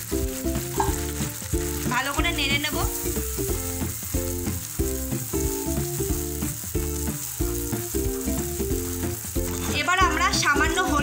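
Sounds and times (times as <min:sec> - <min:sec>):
spatula stirring in pan: 0:00.0 - 0:10.5
background music: 0:00.0 - 0:11.0
paste sizzling in hot oil: 0:00.0 - 0:11.0.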